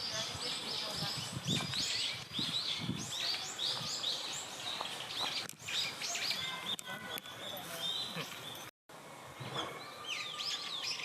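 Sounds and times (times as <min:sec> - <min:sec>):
small birds chirping: 0:00.0 - 0:08.7, 0:09.6 - 0:11.0.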